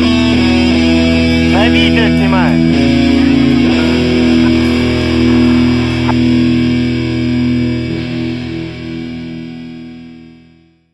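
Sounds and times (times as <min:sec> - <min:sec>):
distorted electric guitar chord: 0:00.0 - 0:10.6.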